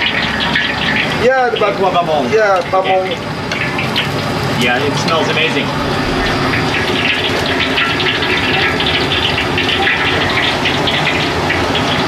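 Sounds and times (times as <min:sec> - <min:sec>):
gas burners roaring: 0:00.0 - 0:12.0
tap water running onto steel: 0:00.0 - 0:12.0.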